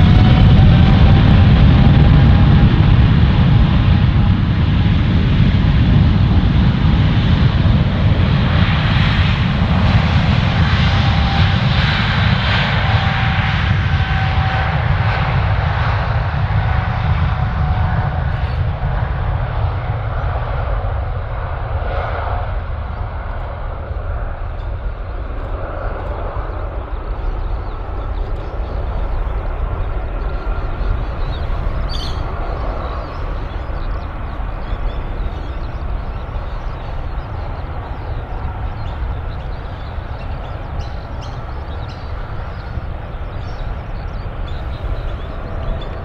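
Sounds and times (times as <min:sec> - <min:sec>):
jet engine rumble: 0:00.0 - 0:46.0.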